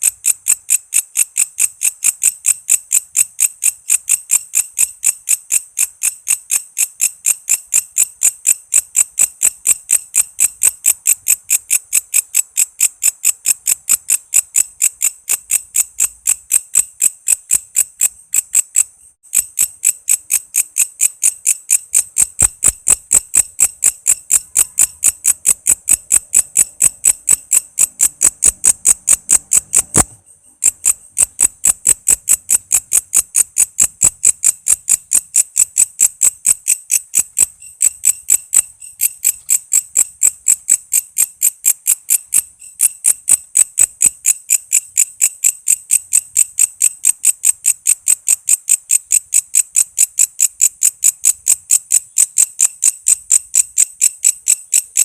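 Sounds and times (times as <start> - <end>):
insect calling in sharp pulses: 0.0 - 55.0.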